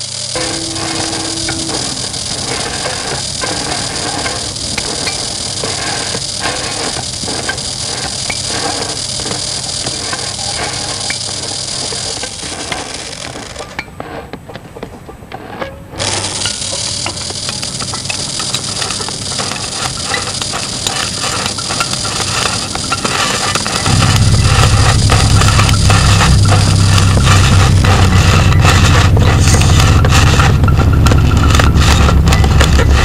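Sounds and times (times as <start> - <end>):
hiss: 0.0 - 13.6, 16.0 - 33.0
electric vibrator buzzing: 0.0 - 14.4, 15.3 - 33.0.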